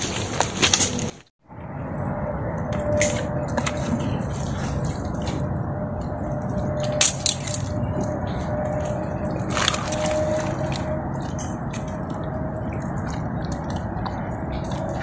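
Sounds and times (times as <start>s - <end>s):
mud and water squelching: 2.7s - 15.0s.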